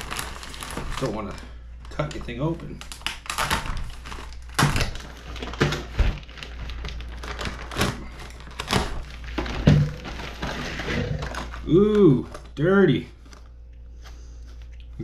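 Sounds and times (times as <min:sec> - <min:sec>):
knife slitting plastic bag: 0:00.0 - 0:12.4.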